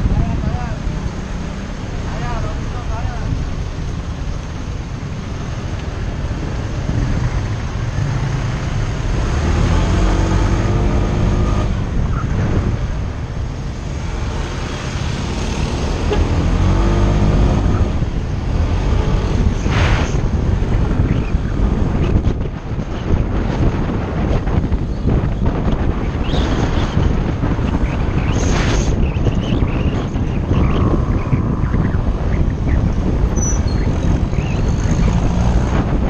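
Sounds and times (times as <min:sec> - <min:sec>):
road and wind noise: 0:00.0 - 0:36.0
vehicle engine accelerating: 0:05.3 - 0:36.0.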